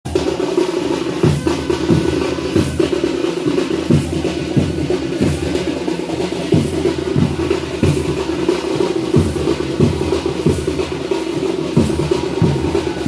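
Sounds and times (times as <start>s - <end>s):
drums playing: 0.1s - 13.0s.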